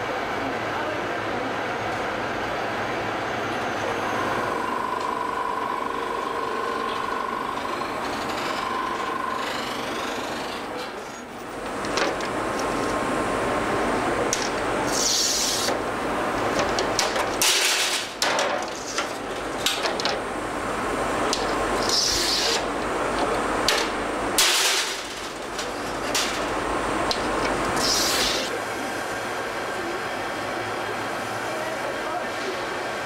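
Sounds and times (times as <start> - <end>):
machinery hum: 0.0 - 33.0.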